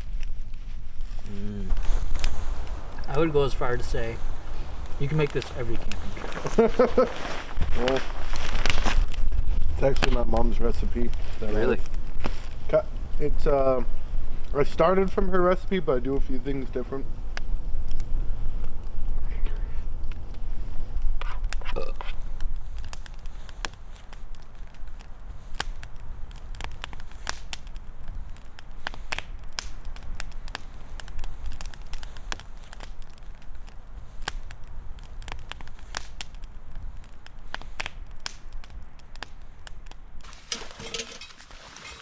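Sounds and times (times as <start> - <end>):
sharp pops of fire: 0.0 - 42.0
wood fire crackling: 0.0 - 42.0.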